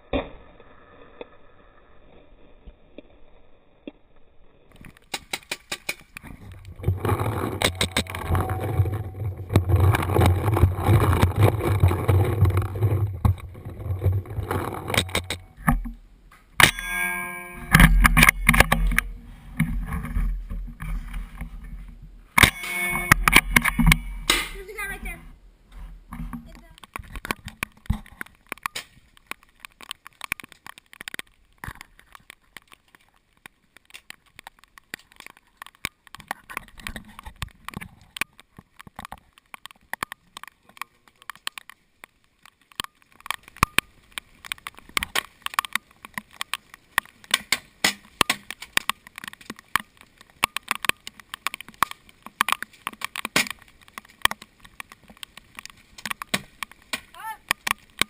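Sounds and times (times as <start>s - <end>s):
rain drops striking camera housing: 2.0s - 58.0s.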